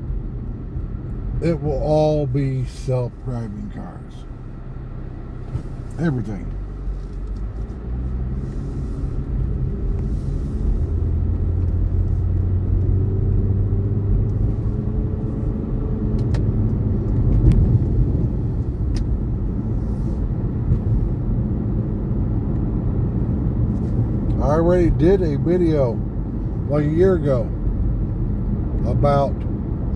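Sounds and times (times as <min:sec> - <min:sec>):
car interior road rumble: 0:00.0 - 0:29.9.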